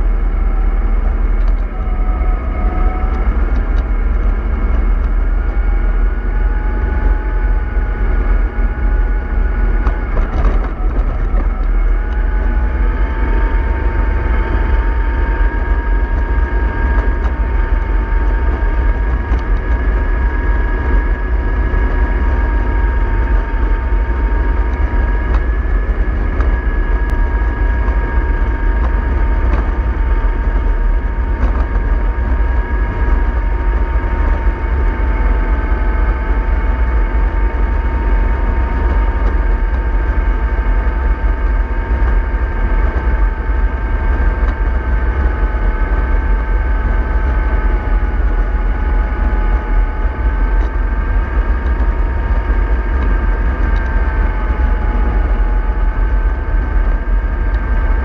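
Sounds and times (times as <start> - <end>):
bus engine rumble: 0.0 - 58.0
drivetrain whine: 0.0 - 58.0.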